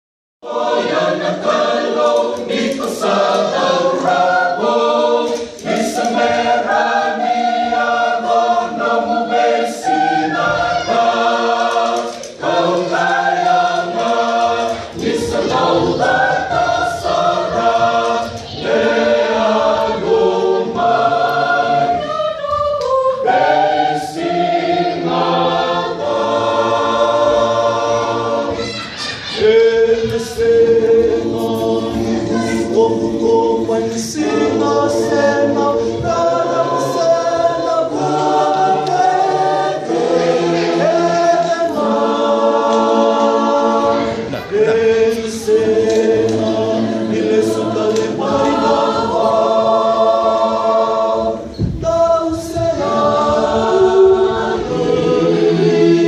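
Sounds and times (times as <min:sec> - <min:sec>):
choir singing unaccompanied: 0:00.4 - 0:56.0.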